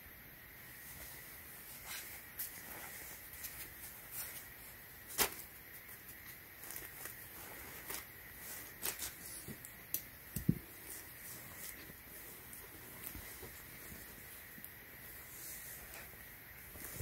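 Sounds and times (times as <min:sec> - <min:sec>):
fabric rustling: 0:00.6 - 0:17.0.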